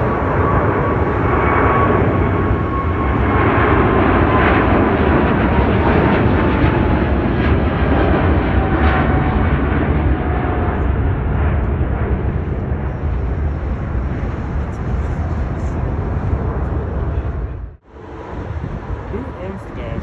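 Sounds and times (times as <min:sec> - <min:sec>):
jet airliner passing: 0:00.0 - 0:20.0.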